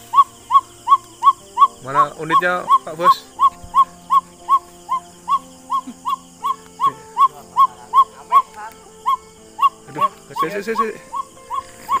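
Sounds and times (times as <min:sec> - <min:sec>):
bird whistle call: 0:00.0 - 0:12.0.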